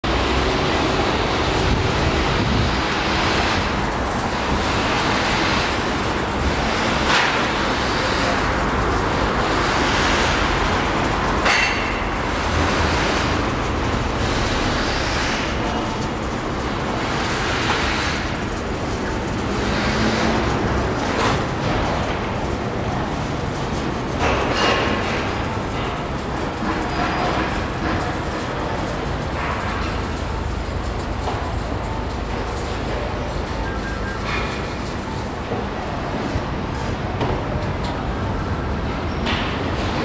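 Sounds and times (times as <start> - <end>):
cars and trucks passing: 0.0 - 40.0.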